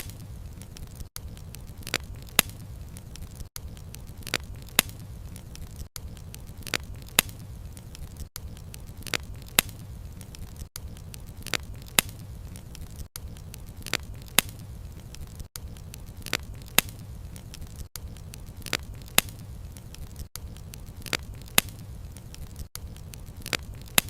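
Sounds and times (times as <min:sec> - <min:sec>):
burning wood popping: 0:00.0 - 0:24.0
flames rumbling: 0:00.0 - 0:24.0.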